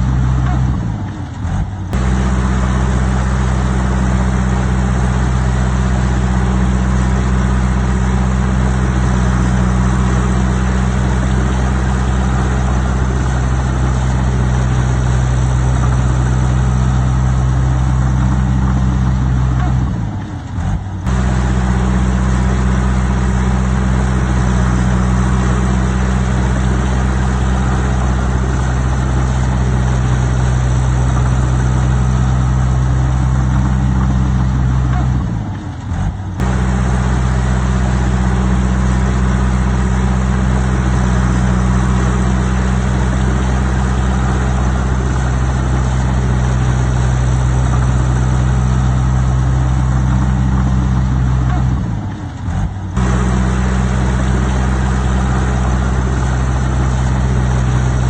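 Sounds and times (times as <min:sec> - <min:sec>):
diesel engine running loudly: 0:00.0 - 0:58.0.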